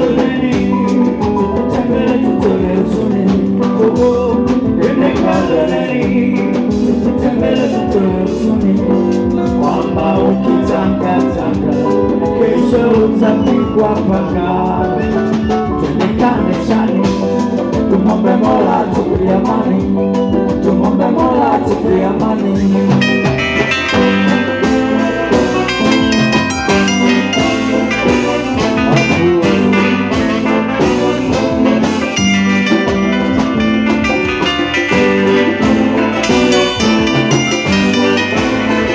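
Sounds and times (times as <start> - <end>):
man singing into microphone: 0.0 - 27.8, 28.5 - 33.5
live band playing dance music: 0.0 - 38.9
saxophones: 0.0 - 38.9.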